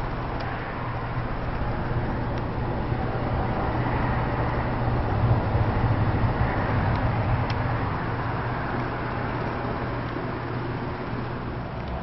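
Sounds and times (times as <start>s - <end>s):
ceiling fan motor hum: 0.0s - 12.0s
rush of air from fan blades: 0.0s - 12.0s.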